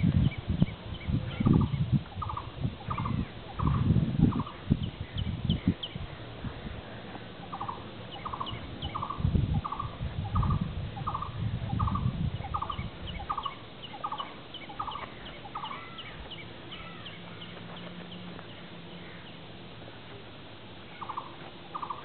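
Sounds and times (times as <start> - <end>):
bird calling with rapid trill: 0.0 - 6.1, 7.4 - 19.4, 20.9 - 22.0
small birds chirping: 0.0 - 22.0.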